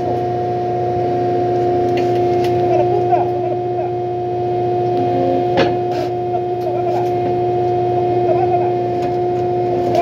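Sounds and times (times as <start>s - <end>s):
high whine: 0.0s - 10.0s
loader engine drone: 0.0s - 10.0s.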